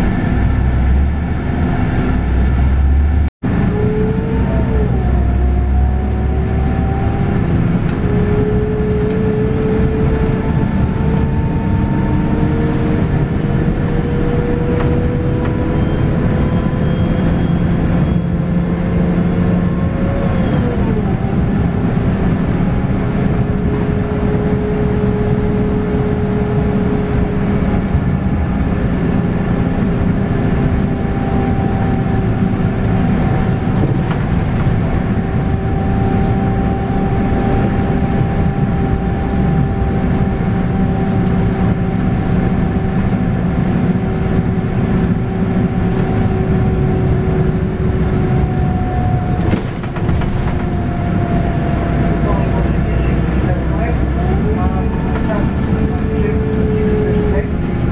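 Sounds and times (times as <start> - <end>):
bus engine rumble and whine: 0.0 - 57.9.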